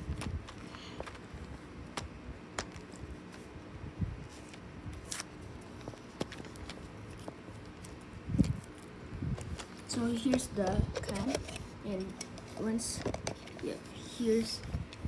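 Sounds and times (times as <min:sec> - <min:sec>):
handling clicks and rustles: 0:00.0 - 0:15.0.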